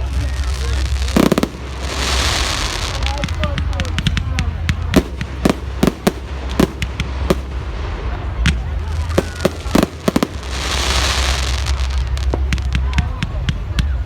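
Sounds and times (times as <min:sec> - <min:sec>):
hissing crackle: 0:00.0 - 0:13.6
fireworks bangs and cracks: 0:00.0 - 0:14.0.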